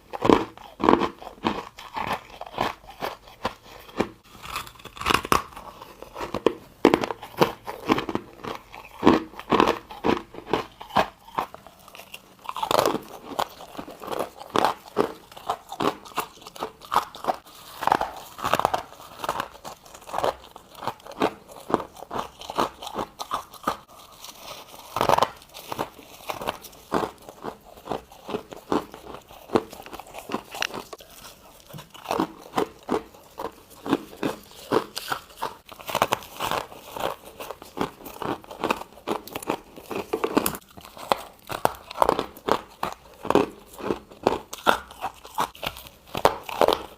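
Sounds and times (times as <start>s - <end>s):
person crunching ice: 0.0s - 46.9s.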